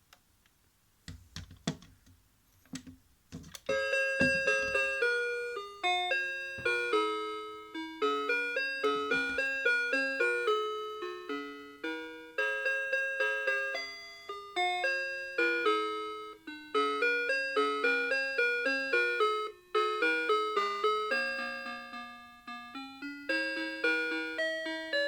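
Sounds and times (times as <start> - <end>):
alarm clock chime melody: 3.7 - 25.0.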